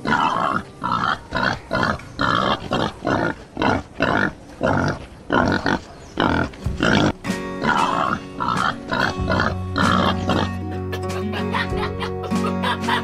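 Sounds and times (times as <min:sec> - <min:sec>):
pigs grunting: 0:00.0 - 0:10.6.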